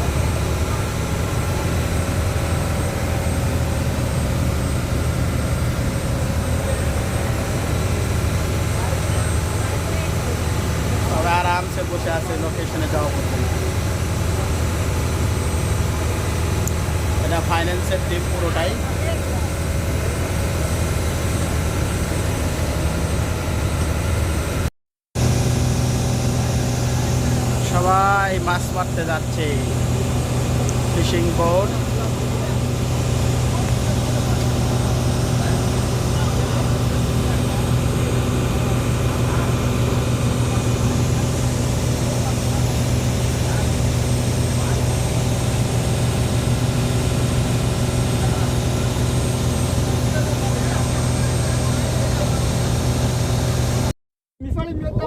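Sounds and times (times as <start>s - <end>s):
boat engine humming: 0.0s - 53.9s
water noise: 0.0s - 53.9s.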